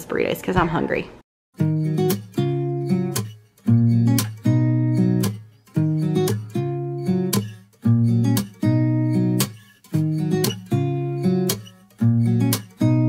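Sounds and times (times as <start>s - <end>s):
acoustic guitar strumming: 1.6s - 13.0s.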